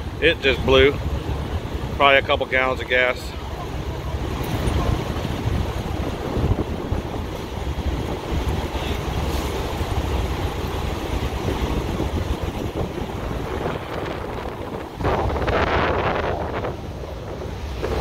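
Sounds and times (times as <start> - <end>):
fire rumbling: 0.0 - 18.0
wind buffeting microphone: 2.9 - 18.0.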